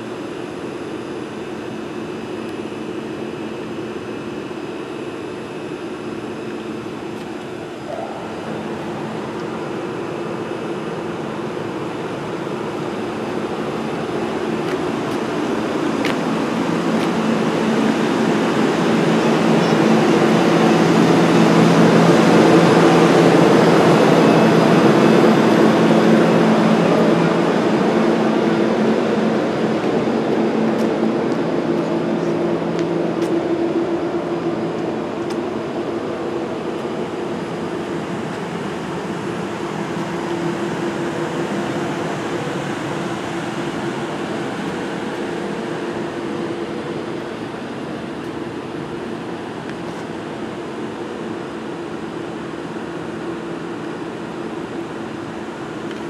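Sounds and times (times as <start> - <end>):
train passing: 3.0 - 56.0.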